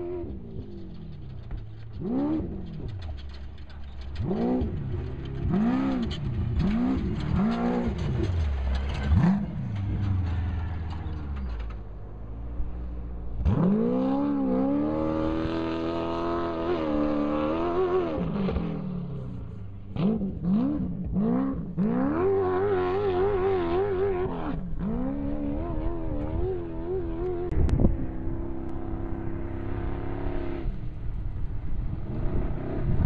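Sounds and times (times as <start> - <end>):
distant engines revving hard: 0.0 - 33.0.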